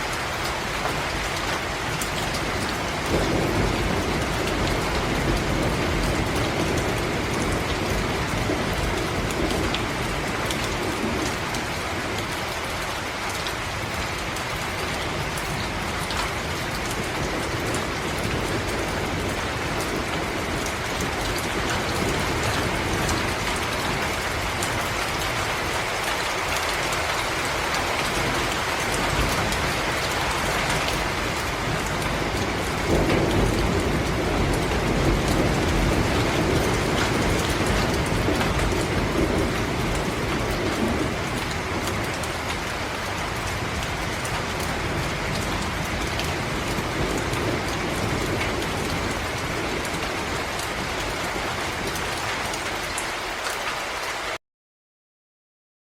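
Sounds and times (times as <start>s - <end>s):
steady rain falling: 0.0s - 54.4s.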